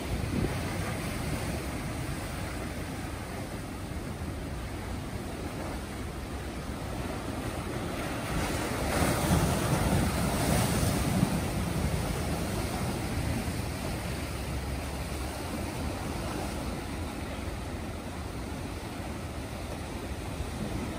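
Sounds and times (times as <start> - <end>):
ocean surf crashing on rock: 0.0 - 20.9.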